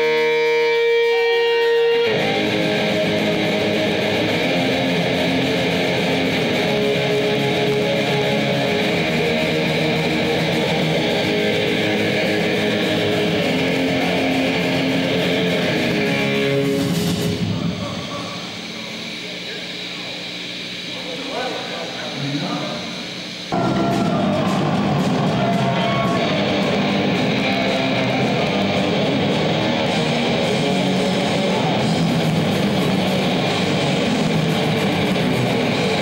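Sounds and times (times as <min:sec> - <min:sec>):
punk band playing loud: 0:00.0 - 0:17.9, 0:23.5 - 0:36.0
distorted electric guitars: 0:00.0 - 0:36.0.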